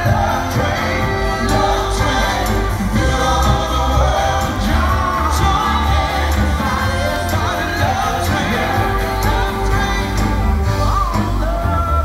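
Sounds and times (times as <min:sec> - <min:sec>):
bass: 0:00.0 - 0:12.0
steady drum beat: 0:00.0 - 0:12.0
voices singing together: 0:00.0 - 0:12.0.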